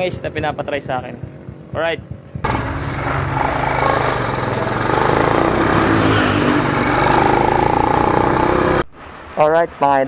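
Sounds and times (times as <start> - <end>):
road and wind noise: 0.0 - 10.0
motorcycle engine running: 0.4 - 8.8.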